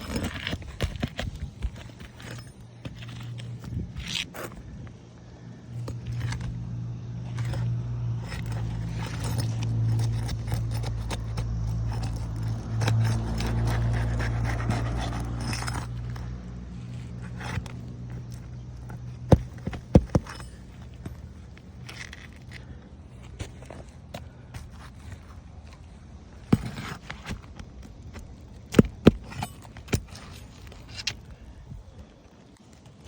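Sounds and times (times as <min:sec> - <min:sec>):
steady low hum: 0:00.0 - 0:32.4
tools scraping under shingles: 0:00.0 - 0:33.0.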